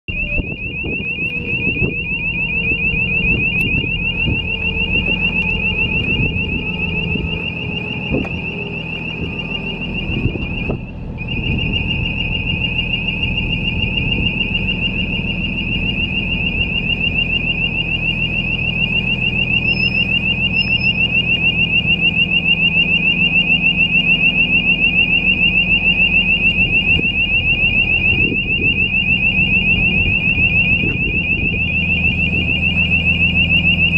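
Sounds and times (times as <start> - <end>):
diesel engine running: 0.0 - 33.9
electronic warning buzzer warbling: 0.1 - 33.9.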